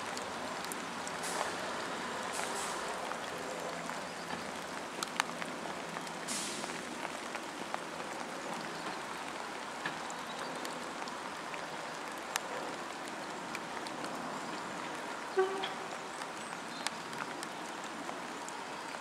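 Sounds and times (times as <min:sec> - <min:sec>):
rain pattering: 0:00.0 - 0:19.0
sharp drip ticks: 0:00.0 - 0:19.0.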